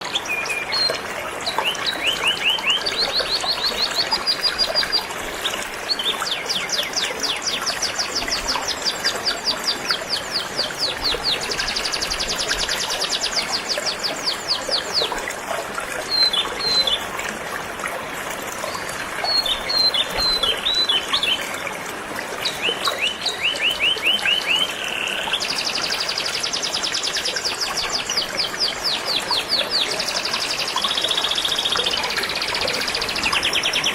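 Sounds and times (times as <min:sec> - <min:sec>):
canary singing trills: 0:00.1 - 0:15.2, 0:16.0 - 0:17.1, 0:19.2 - 0:21.6, 0:22.5 - 0:33.9.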